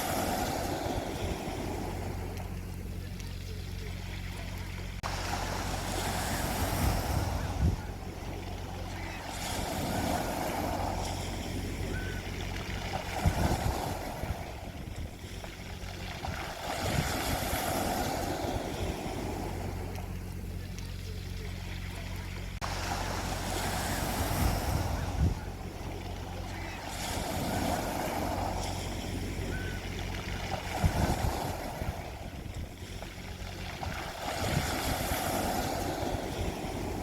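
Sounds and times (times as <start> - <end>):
low engine-like hum: 0.0 - 37.0
sea waves washing onto beach: 0.0 - 37.0.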